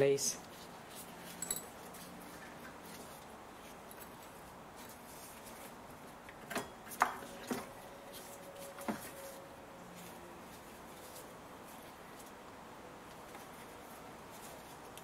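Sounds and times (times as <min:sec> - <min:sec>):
handling noises of rubber belt: 0:00.4 - 0:15.0.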